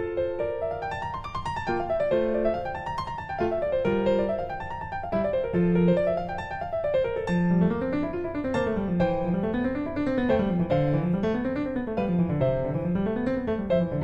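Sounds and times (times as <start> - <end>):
piano arpeggios: 0.0 - 14.0.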